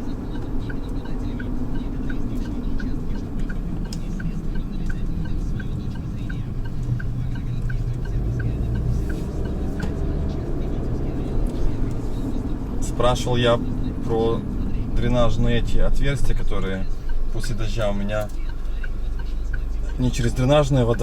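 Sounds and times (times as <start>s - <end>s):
car engine and road rumble: 0.0s - 21.0s
turn signal ticking: 0.0s - 21.0s.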